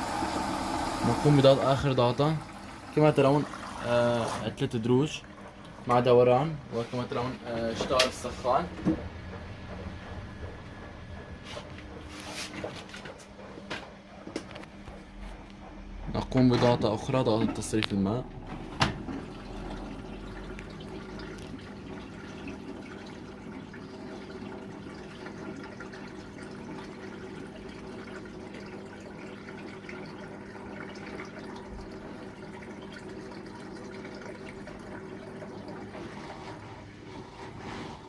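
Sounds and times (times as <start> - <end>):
water running: 0.0 - 13.6, 14.5 - 38.0
washing machine drain pump humming: 0.0 - 38.0.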